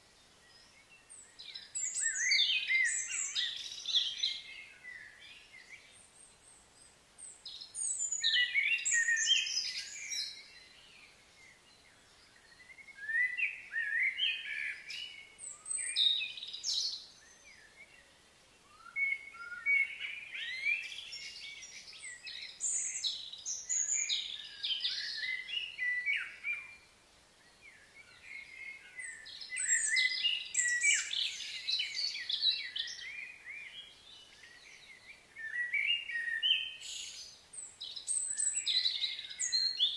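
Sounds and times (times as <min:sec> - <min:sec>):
small songbirds chirping and twittering: 0:00.0 - 0:39.9.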